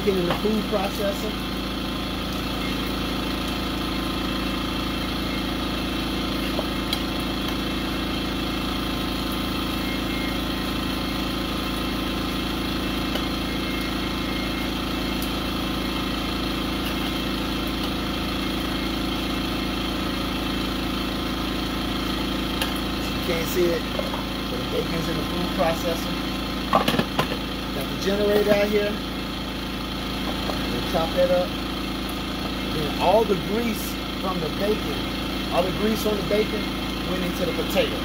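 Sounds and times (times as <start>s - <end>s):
generator engine running: 0.0s - 38.0s.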